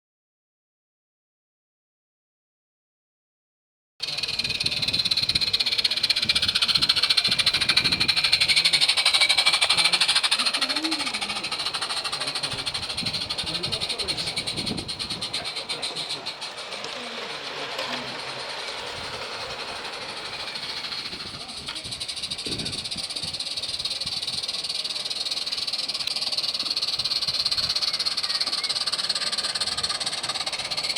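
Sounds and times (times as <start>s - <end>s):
people talking quietly: 4.0s - 30.9s
steam locomotive hissing: 4.0s - 30.9s.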